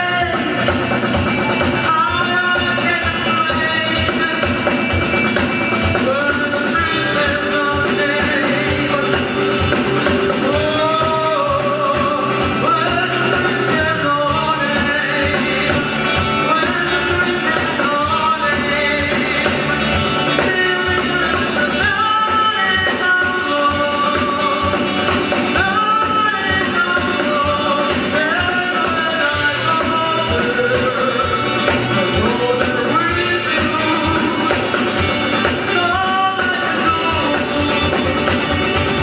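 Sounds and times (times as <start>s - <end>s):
drum kit beat: 0.0s - 39.0s
guitar: 0.0s - 39.0s
lead vocal singing: 0.0s - 39.0s.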